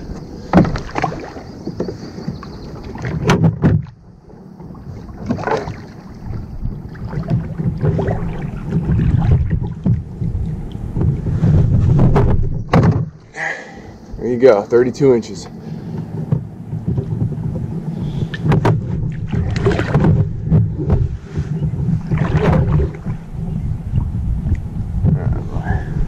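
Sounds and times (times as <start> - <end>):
knocks and splashes on plastic boat: 0.0 - 13.3, 15.9 - 25.3
water sloshing: 0.0 - 24.6
wind buffeting microphone: 0.0 - 26.0.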